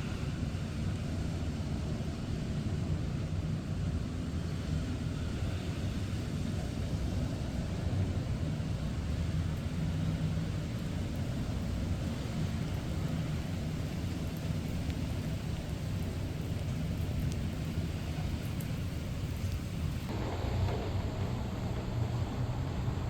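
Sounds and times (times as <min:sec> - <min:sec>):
low rumble of road traffic: 0:00.0 - 0:23.0
steady rain: 0:00.0 - 0:23.0.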